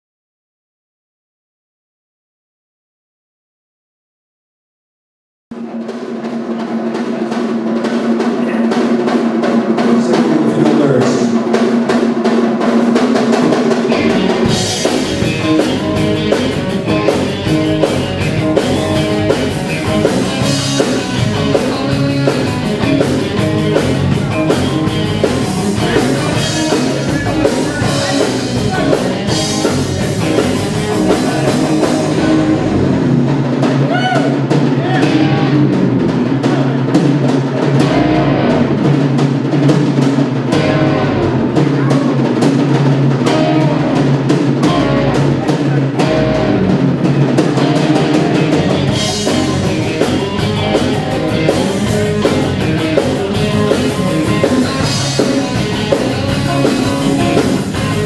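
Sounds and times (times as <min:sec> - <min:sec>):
live rock band playing: 0:05.5 - 0:58.0.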